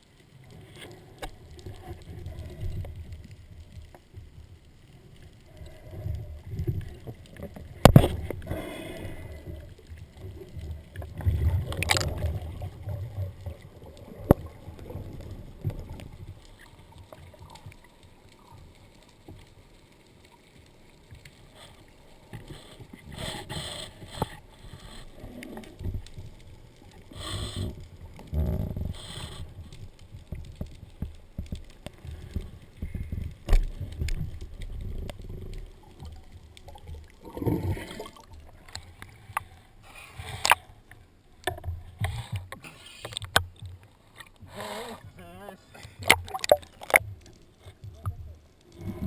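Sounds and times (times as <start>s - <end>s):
water rushing underwater: 0.0s - 49.0s.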